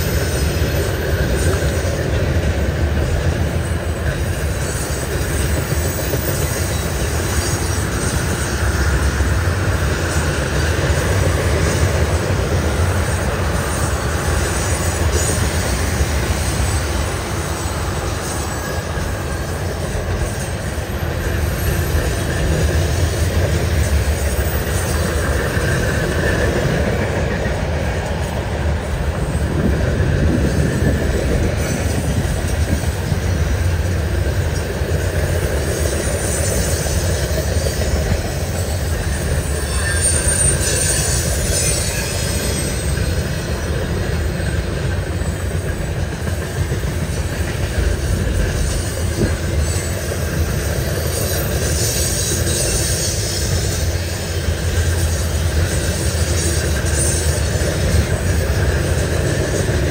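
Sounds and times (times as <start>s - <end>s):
freight cars rumbling on rail: 0.0s - 59.9s
faint wheel squeal: 3.5s - 28.1s, 34.4s - 59.9s.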